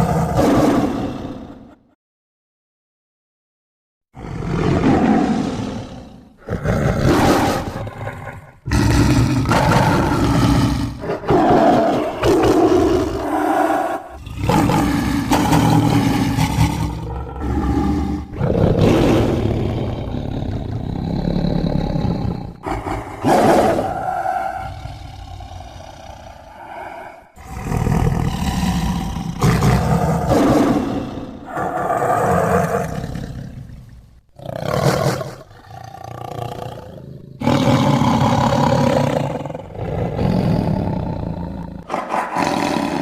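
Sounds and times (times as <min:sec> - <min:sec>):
deep rough dinosaur roars: 0:00.0 - 0:01.8, 0:04.2 - 0:43.0.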